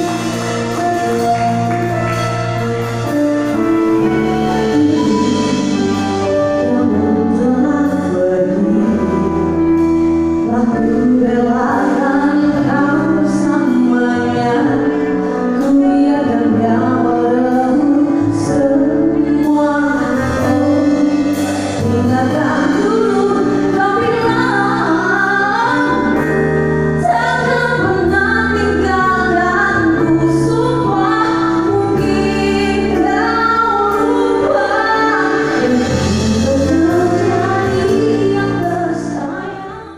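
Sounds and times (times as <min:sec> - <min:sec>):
live pop band playing: 0:00.0 - 0:39.9
woman singing: 0:04.1 - 0:09.8, 0:10.4 - 0:39.9.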